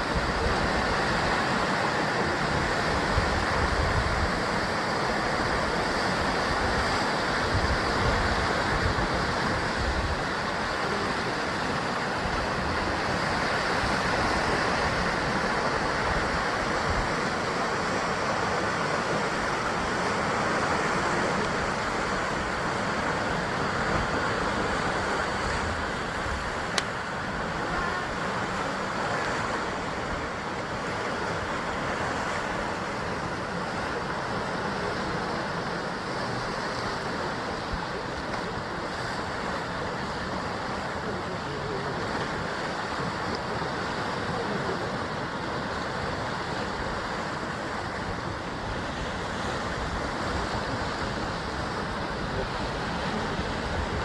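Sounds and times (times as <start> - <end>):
surf breaking on rocks: 0.0 - 54.0.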